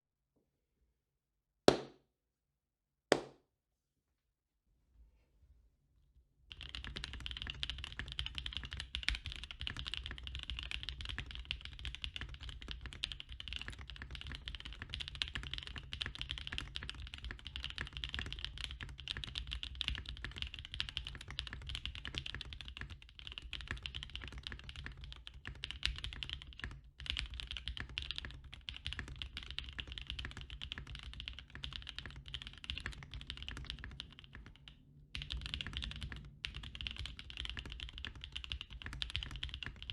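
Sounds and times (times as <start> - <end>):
fast typing on mechanical keyboard: 6.5 - 39.9.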